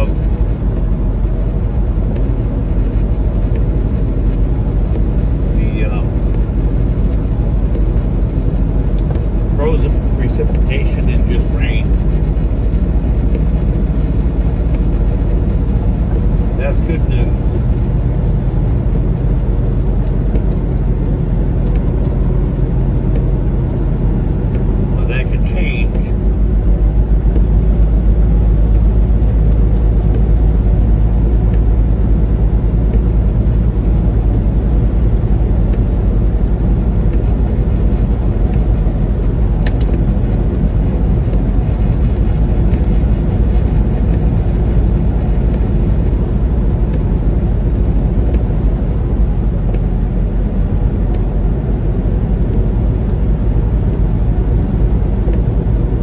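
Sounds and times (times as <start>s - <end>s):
truck engine and road drone: 0.0s - 56.0s.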